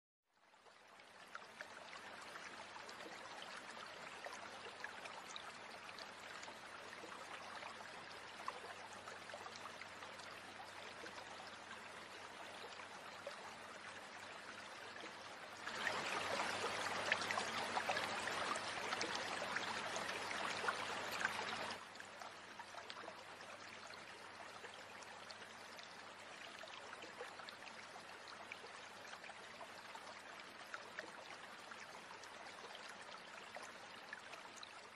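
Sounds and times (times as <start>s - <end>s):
forest stream running: 0.3s - 34.9s.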